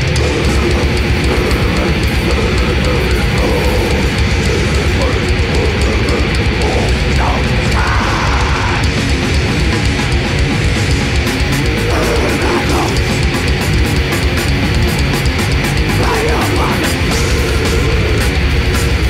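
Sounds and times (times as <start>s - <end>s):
metal band playing live: 0.0s - 19.0s.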